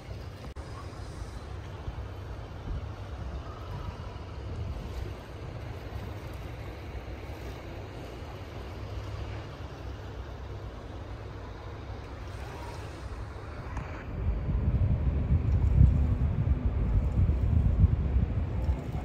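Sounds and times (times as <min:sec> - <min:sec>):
wind buffeting microphone: 0:00.0 - 0:09.0, 0:10.5 - 0:19.0.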